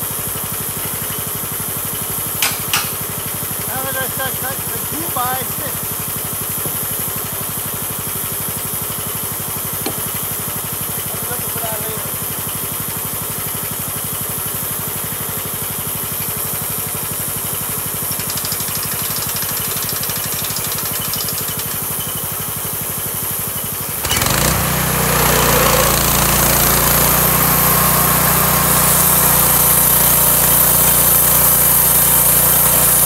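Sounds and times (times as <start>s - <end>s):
small sawmill engine running: 0.0s - 33.0s.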